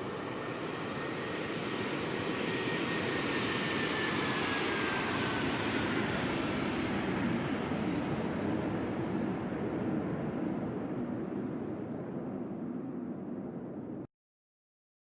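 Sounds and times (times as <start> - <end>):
airplane engines passing by: 0.0 - 14.1.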